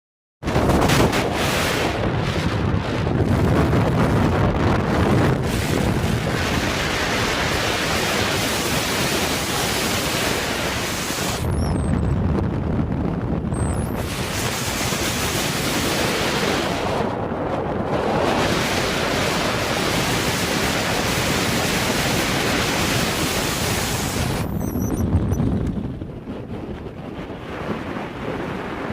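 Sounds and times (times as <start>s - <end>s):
storm wind buffeting microphone: 0.4s - 28.9s.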